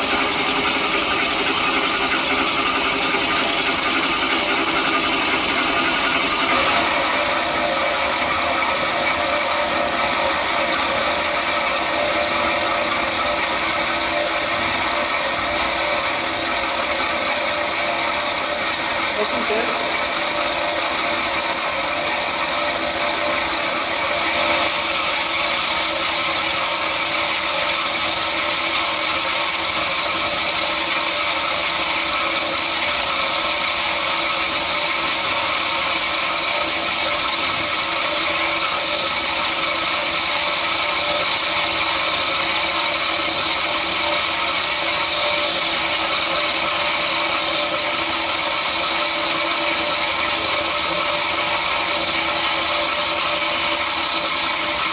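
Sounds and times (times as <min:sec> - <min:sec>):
band saw cutting metal: 0:00.0 - 0:54.9.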